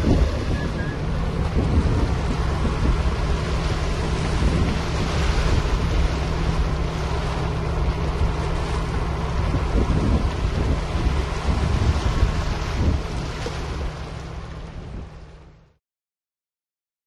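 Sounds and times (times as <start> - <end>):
wind buffeting microphone: 0.0 - 15.4
steady low hum: 0.0 - 15.5.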